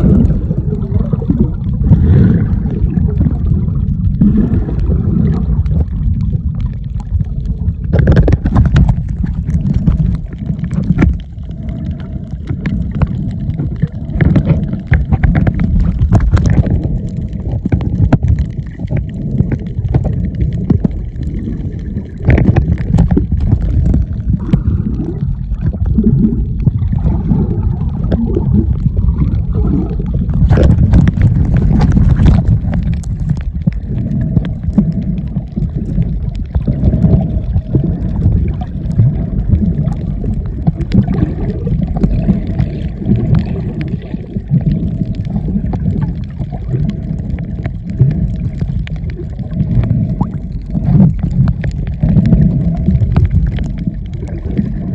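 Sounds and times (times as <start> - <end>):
crackling bursts: 0.0 - 54.9
underwater rumble of water: 0.0 - 54.9.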